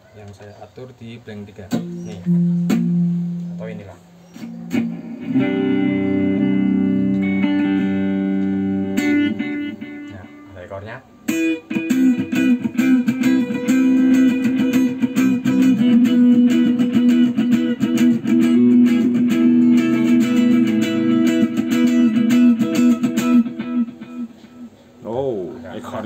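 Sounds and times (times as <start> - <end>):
electric guitar with delay: 1.7 - 25.0.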